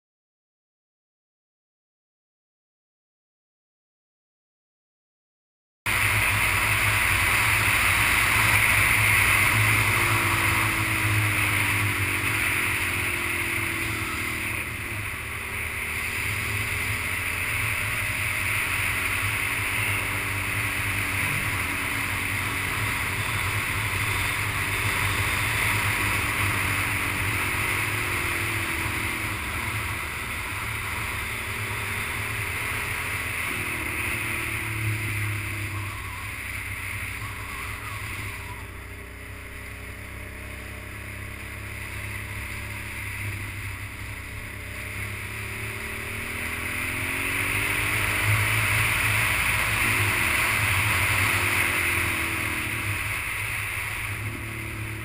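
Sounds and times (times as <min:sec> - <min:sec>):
motorcycle engine running: 0:05.9 - 0:55.0.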